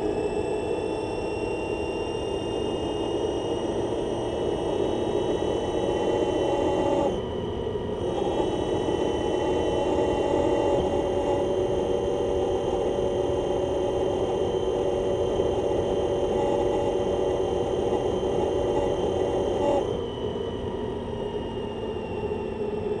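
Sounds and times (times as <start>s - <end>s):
electric motor whine: 0.0s - 23.0s
road and wind noise: 2.2s - 23.0s.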